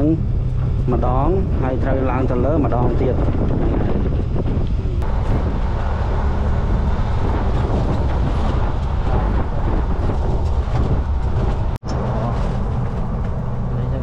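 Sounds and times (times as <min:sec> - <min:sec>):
motorbike engine rumble: 0:00.0 - 0:14.0
wind noise on microphone: 0:00.0 - 0:14.0.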